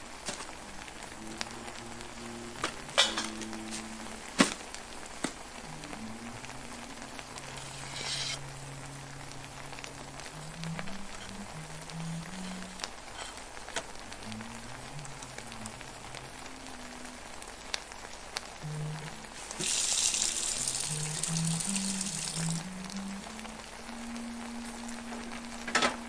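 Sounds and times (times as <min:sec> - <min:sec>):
masala bubbling and sizzling: 0:00.0 - 0:26.0.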